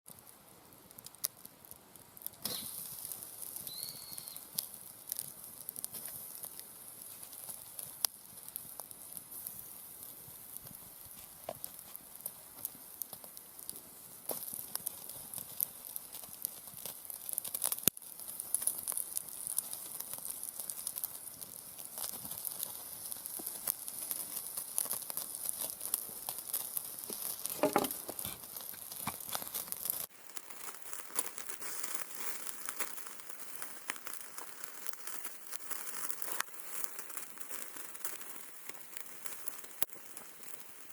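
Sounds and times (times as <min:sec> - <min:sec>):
meat sizzling on a grill: 0:00.3 - 0:40.9.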